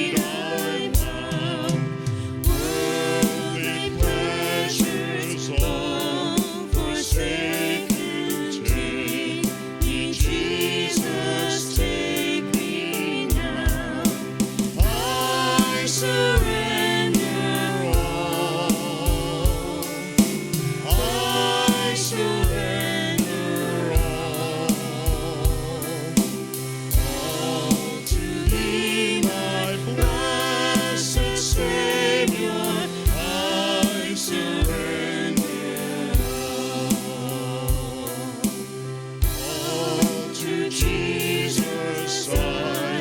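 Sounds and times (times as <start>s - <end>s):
band playing: 0.0s - 43.0s
steady drum beat: 0.0s - 43.0s
voices singing gospel music: 0.0s - 43.0s.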